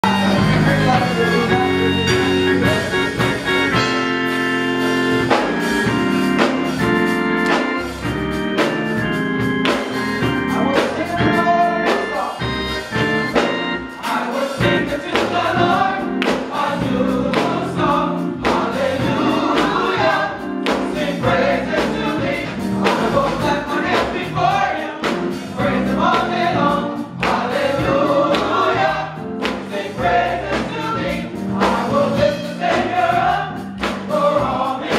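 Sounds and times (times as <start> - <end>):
gospel choir singing: 0.0 - 34.9
instrumental accompaniment: 0.0 - 34.9
steady drum beat: 0.0 - 34.9.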